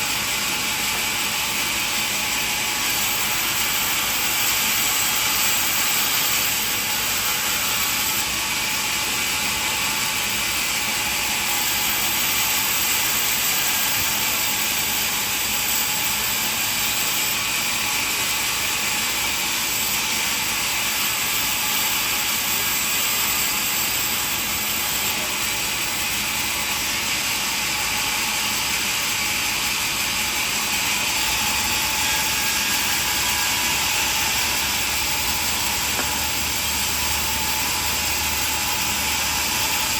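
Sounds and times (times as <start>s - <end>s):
sawmill machinery clattering: 0.0s - 39.9s.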